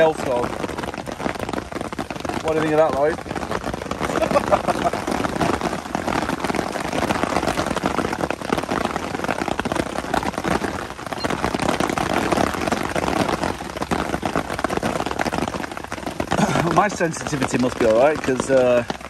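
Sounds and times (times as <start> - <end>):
hail rattling on canvas: 0.0 - 19.0.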